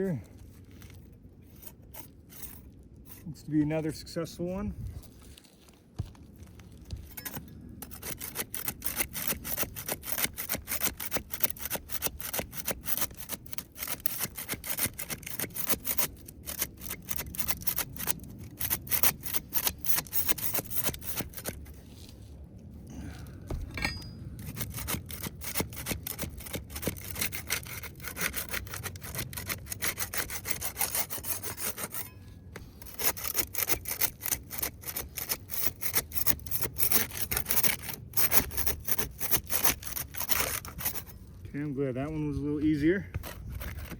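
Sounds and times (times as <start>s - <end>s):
flat bar scraping under shingles: 0.0s - 43.9s.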